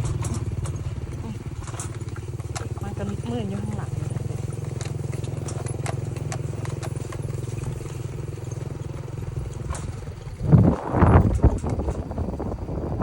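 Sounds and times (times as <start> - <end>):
loud rough engine bursts: 0.0 - 13.0
small engine running: 0.0 - 13.0.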